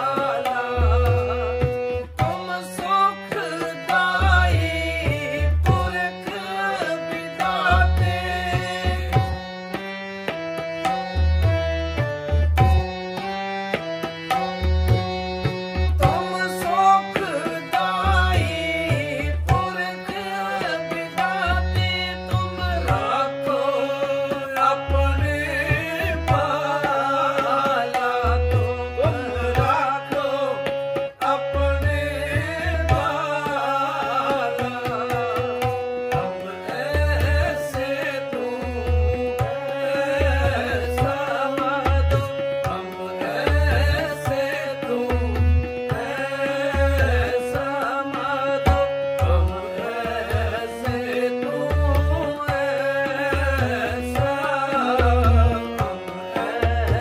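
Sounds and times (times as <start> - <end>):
person singing: 0.0 - 9.9, 14.7 - 57.0
harmonium melody: 0.0 - 57.0
tabla rhythm: 0.0 - 57.0.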